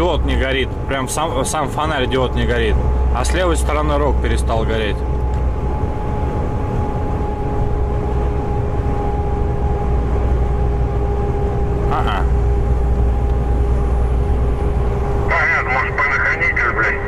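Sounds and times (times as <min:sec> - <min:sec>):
truck engine and tyres rumbling: 0:00.0 - 0:17.0
two-tone hum: 0:00.0 - 0:17.0.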